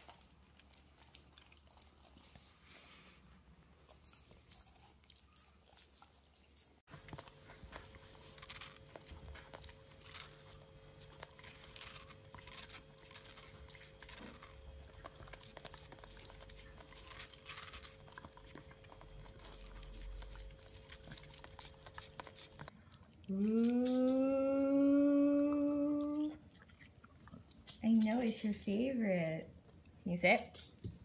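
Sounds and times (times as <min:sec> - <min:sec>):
dog chewing watermelon: 0:00.0 - 0:03.2, 0:03.8 - 0:24.3, 0:25.1 - 0:28.8.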